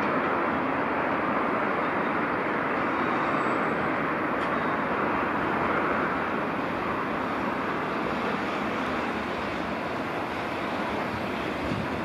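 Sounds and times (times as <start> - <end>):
freight train rolling slowly: 0.0 - 12.0.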